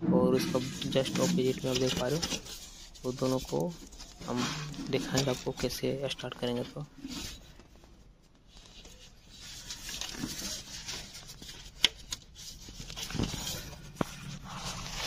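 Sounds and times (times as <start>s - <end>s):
rustling and handling noise: 0.3s - 15.0s.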